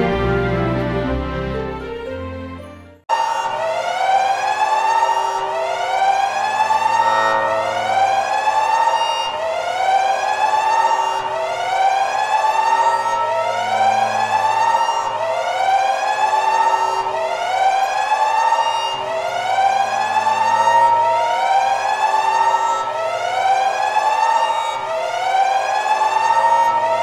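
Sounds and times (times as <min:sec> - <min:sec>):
siren-style alarm wail: 0:03.1 - 0:27.0.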